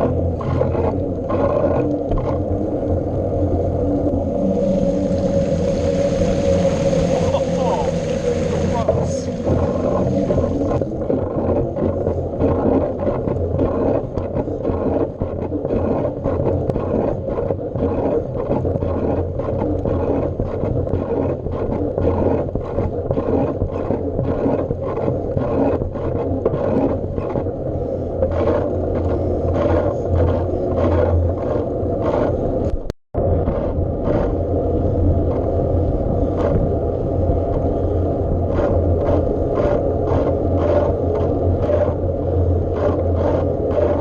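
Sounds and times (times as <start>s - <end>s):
bike riding drone: 0.0s - 44.0s.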